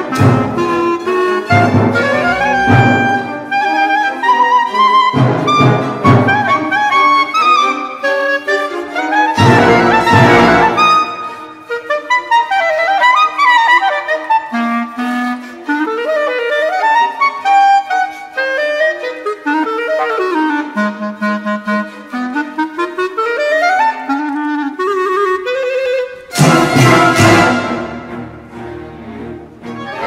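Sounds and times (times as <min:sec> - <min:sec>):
solo clarinet playing: 0:00.0 - 0:28.2.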